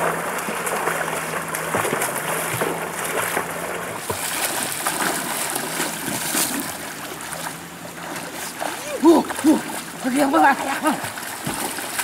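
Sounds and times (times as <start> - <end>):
people splashing through water: 0.0 - 12.0
river flowing: 0.0 - 12.0.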